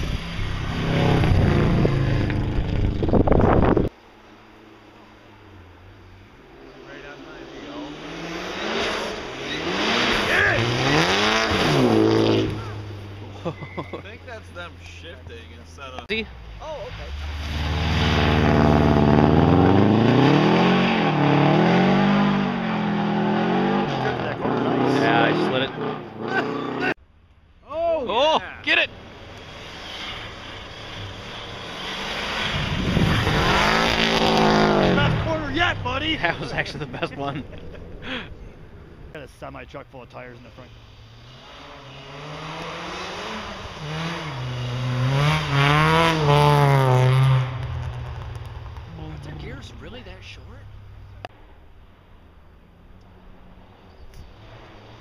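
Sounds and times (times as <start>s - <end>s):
rally car engine revving: 0.0s - 3.9s, 6.4s - 16.1s, 16.8s - 27.0s, 28.7s - 39.2s, 40.4s - 51.3s.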